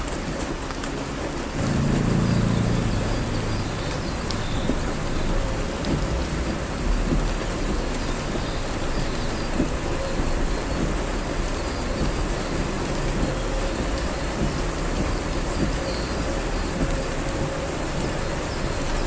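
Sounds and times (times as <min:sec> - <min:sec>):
heavy rain pouring: 0:00.0 - 0:19.0
low rumble: 0:01.6 - 0:17.4.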